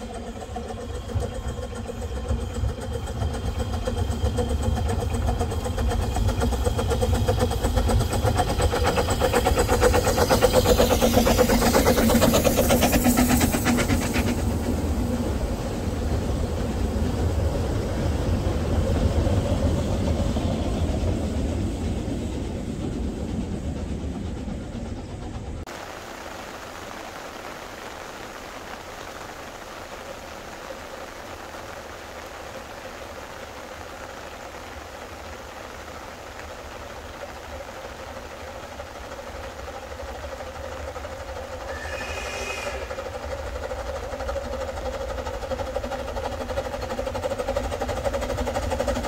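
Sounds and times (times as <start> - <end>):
carriages rolling on track: 0.0 - 25.7, 32.0 - 49.0
steam locomotive working: 0.0 - 49.0.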